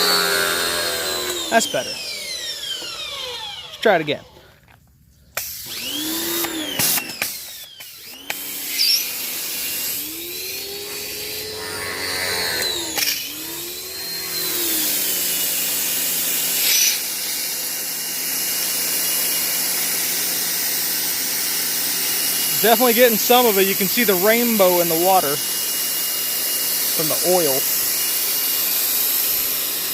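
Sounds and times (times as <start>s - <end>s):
pressure washer motor whining: 0.0s - 4.4s, 5.4s - 29.9s.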